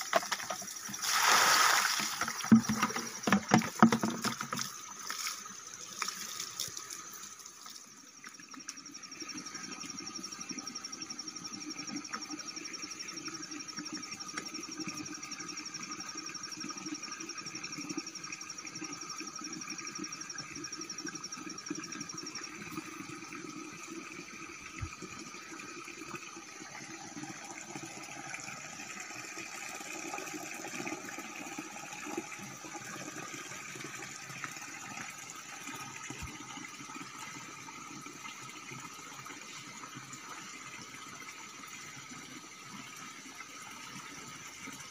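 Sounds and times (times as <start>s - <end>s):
water running from pipe: 0.0s - 44.9s.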